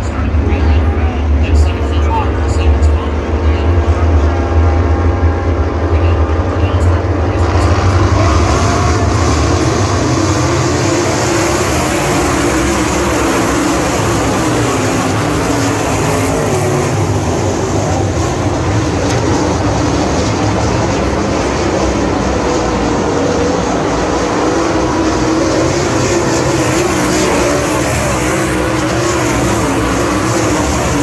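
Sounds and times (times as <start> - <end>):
race car engines at high revs: 0.0 - 31.0.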